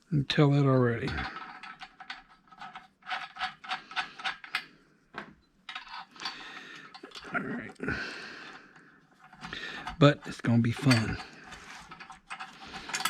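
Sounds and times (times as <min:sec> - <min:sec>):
metal nuts clicking and rattling: 0:00.9 - 0:07.8, 0:08.4 - 0:13.0.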